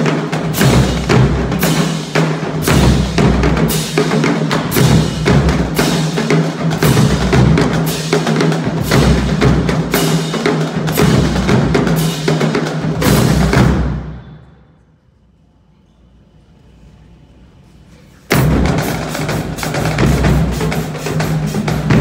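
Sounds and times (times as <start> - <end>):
bass drums: 0.0 - 14.0, 18.3 - 22.0
snare drums: 0.0 - 14.6, 18.2 - 22.0
tenor drums: 0.0 - 14.6, 18.1 - 22.0.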